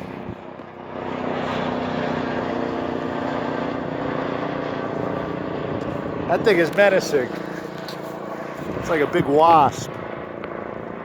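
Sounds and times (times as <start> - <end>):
helicopter flying over: 0.0 - 11.0.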